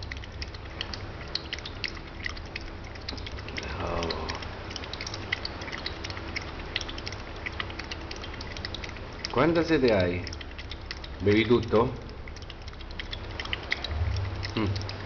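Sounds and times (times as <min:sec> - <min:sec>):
puppy lapping water: 0:00.0 - 0:15.0.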